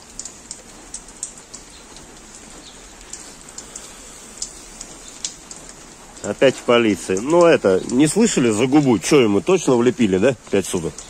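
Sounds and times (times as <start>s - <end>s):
rain hissing: 0.0s - 11.0s
raindrop ticks: 0.0s - 11.0s.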